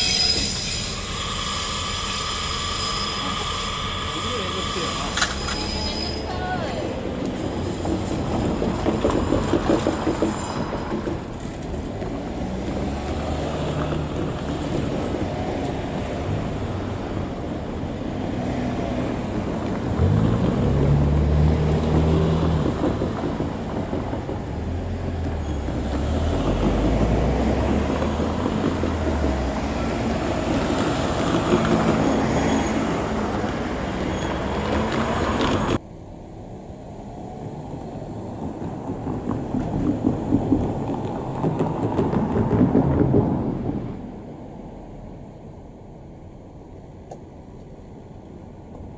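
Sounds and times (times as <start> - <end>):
diesel railcar engines revving: 0.0 - 44.8
wheel and rail noise: 0.0 - 48.9.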